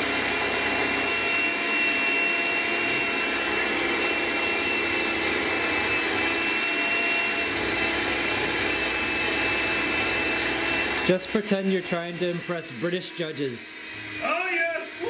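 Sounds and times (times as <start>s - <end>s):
electric hand mixer whine: 0.0s - 15.0s.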